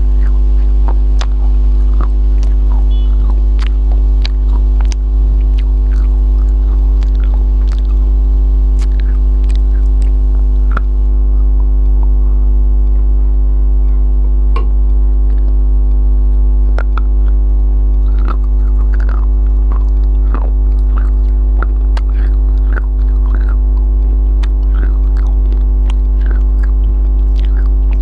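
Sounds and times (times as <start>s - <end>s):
person eating and chewing: 0.0s - 12.2s, 14.6s - 28.0s
electrical mains hum: 0.0s - 28.0s.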